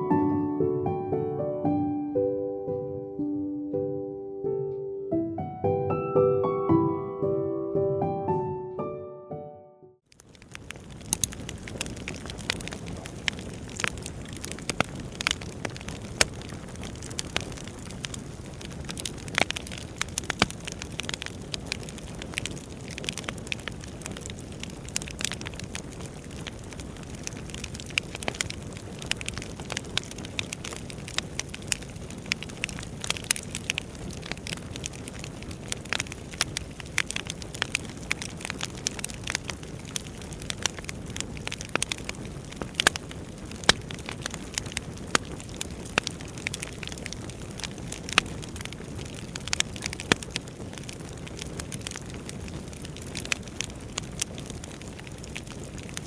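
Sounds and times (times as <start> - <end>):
burning logs crackling and popping: 10.0 - 56.0
low rumble of flames: 10.1 - 56.0.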